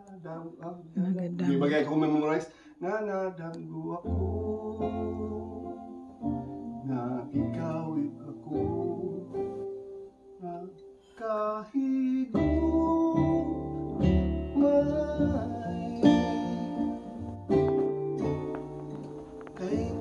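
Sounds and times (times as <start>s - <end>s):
acoustic guitar playing: 0.0s - 2.3s, 2.9s - 20.0s
man singing: 0.0s - 6.1s, 6.8s - 9.7s, 10.4s - 17.3s, 19.4s - 20.0s.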